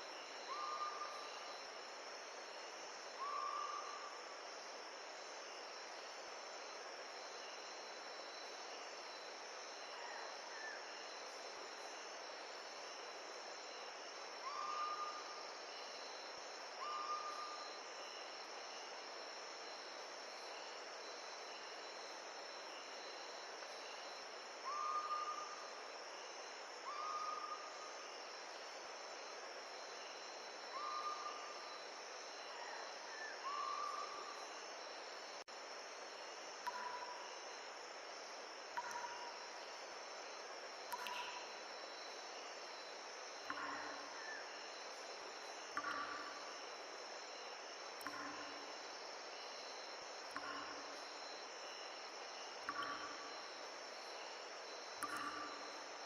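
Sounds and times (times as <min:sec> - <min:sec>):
insects chirring: 0:00.0 - 0:56.0
steady hiss: 0:00.0 - 0:56.0.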